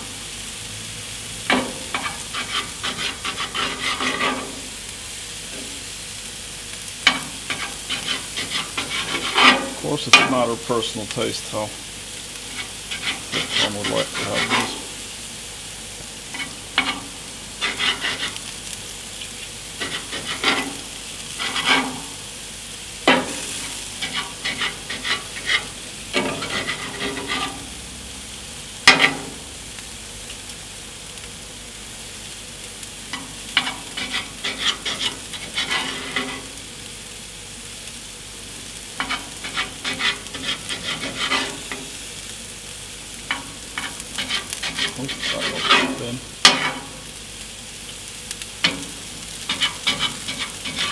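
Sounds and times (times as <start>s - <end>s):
meat sizzling in a frying pan: 0.0s - 50.9s.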